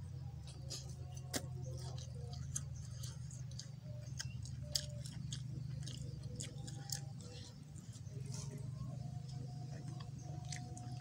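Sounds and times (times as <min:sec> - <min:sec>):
low hum: 0:00.0 - 0:11.0
person chewing with wet smacking: 0:00.2 - 0:11.0.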